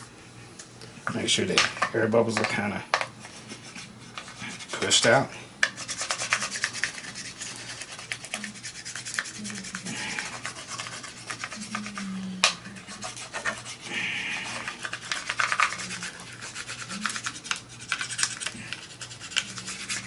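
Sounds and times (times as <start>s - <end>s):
hand rubbing film scratchily: 3.1s - 20.0s.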